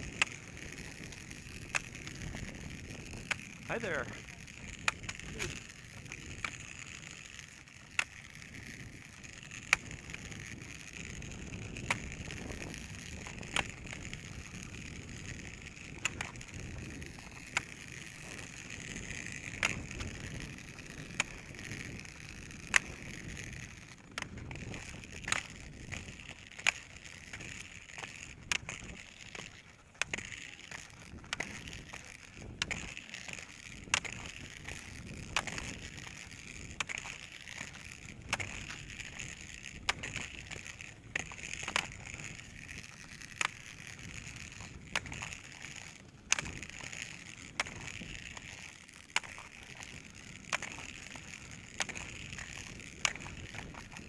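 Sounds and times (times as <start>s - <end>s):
roller skis rolling on asphalt: 0.0s - 54.0s
ski poles clicking on pavement: 0.0s - 54.0s.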